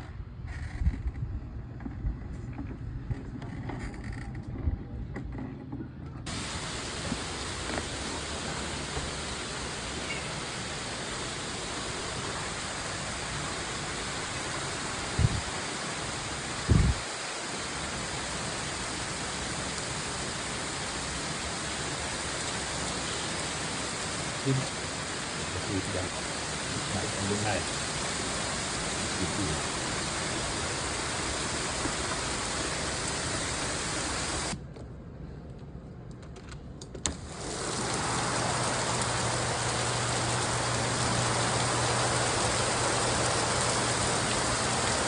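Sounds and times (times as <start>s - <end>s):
heavy rain hiss: 6.3s - 34.6s, 37.1s - 45.0s.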